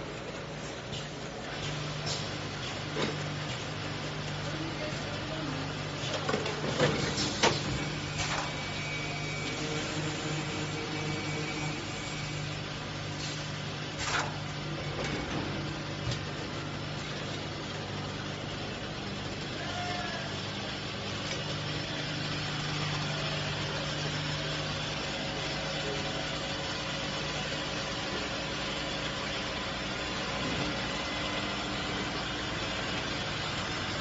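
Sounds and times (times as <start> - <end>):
bottling machine humming: 0.0 - 34.0.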